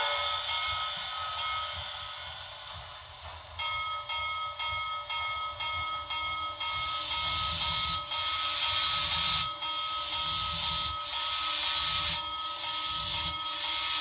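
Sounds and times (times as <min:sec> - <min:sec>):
model locomotive bell ringing: 0:00.0 - 0:14.0.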